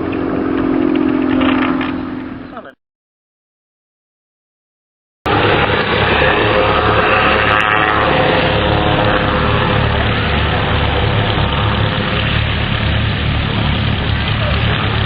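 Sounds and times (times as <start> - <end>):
autogyro engine and propeller droning: 0.0 - 2.8, 5.3 - 15.0.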